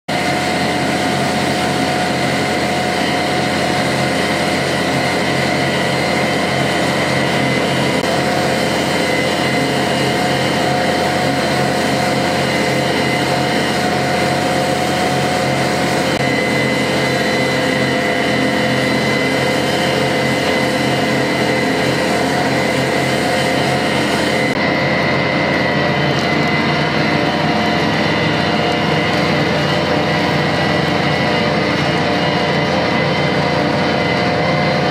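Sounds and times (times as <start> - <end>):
tractor engine under load: 0.1 - 34.9.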